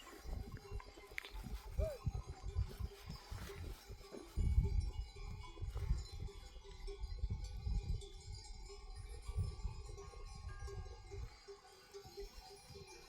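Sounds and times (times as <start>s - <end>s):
livestock bells clinking: 0.0s - 13.0s.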